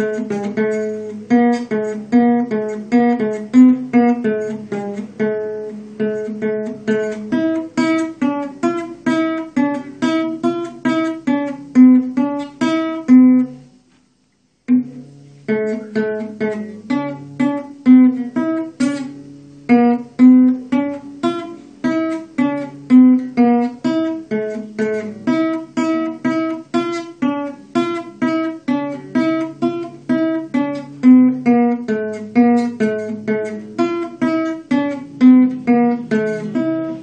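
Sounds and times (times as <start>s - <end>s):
fingerpicked classical guitar: 0.0s - 14.0s, 14.6s - 37.0s.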